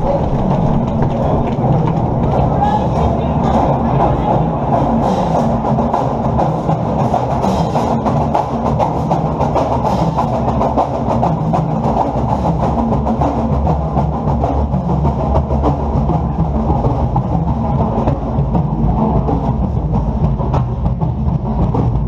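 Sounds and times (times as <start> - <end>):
bass drum: 0.0 - 22.0.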